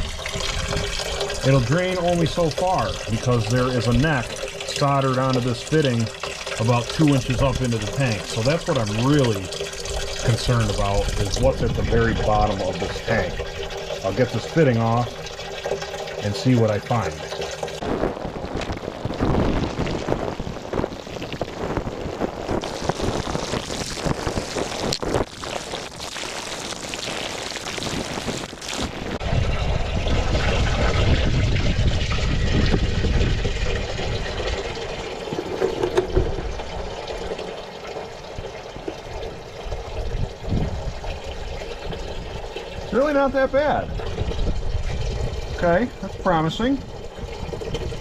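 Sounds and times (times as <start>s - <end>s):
fuel pouring into bucket: 0.0s - 48.0s.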